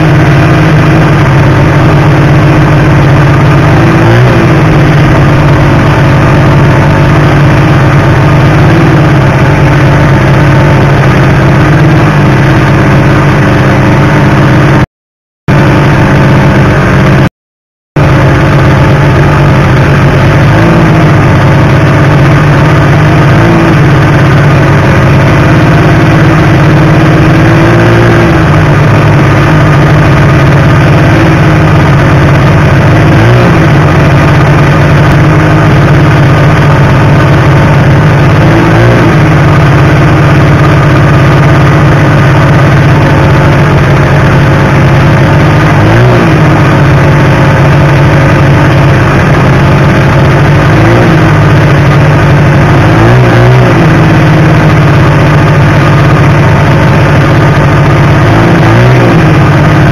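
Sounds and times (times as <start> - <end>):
snowmobile engine running: 0.0 - 14.9, 15.5 - 17.3, 18.0 - 59.9.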